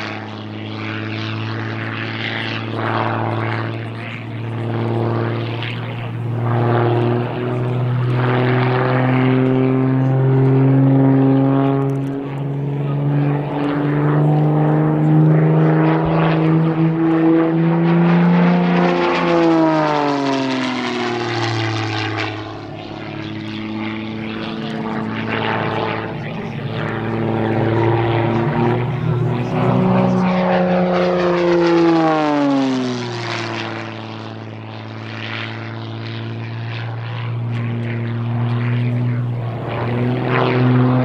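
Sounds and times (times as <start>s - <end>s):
propeller plane engine: 0.0s - 41.0s.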